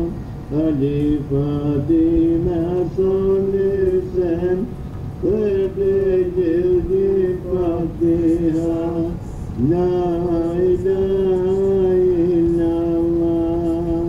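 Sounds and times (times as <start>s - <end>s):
person singing devotional hymn: 0.0s - 14.0s.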